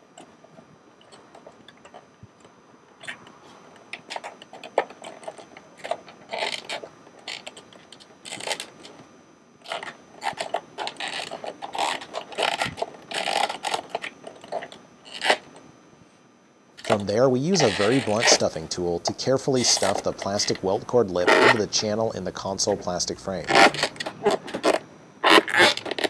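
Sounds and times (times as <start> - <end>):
leather scraping against plastic: 3.1 - 9.0, 9.6 - 15.5, 16.8 - 26.0.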